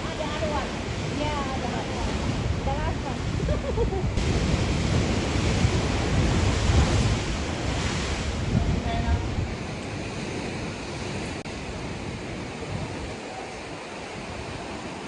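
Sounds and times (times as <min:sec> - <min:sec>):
surf breaking against rocks: 0:00.0 - 0:15.0
wind rumble on microphone: 0:00.0 - 0:15.0.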